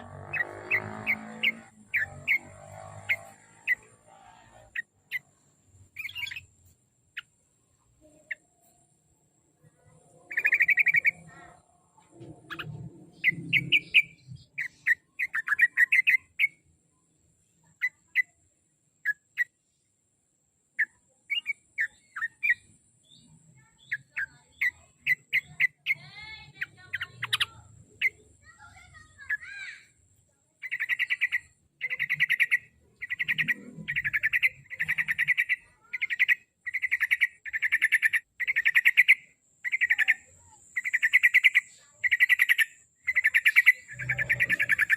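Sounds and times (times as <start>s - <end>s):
bulbul chirping song: 0.0s - 19.8s, 20.6s - 44.9s.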